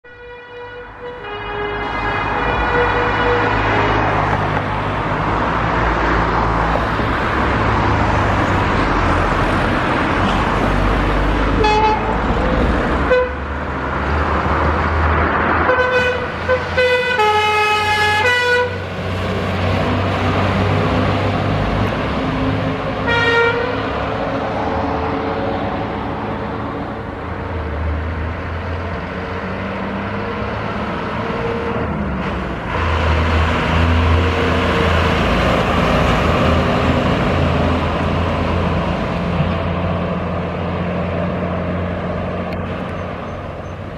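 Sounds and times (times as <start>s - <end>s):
fire engine rumbling: 0.0s - 43.9s.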